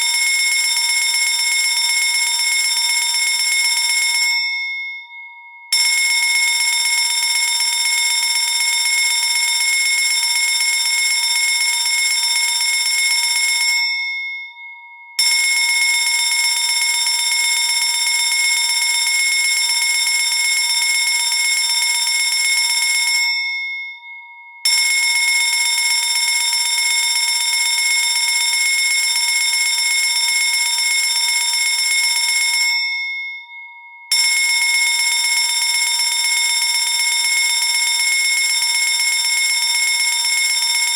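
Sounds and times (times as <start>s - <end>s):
fire alarm ringing: 0.0s - 40.9s.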